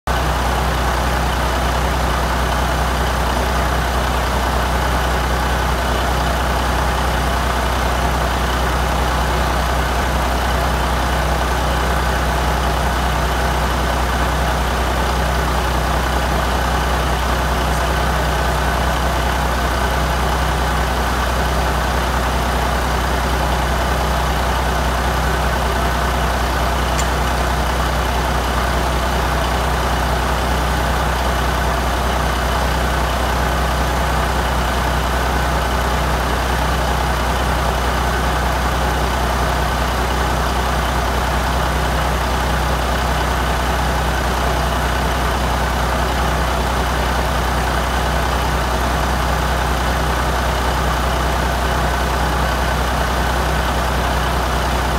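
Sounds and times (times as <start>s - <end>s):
diesel engine running steadily: 0.0s - 54.9s.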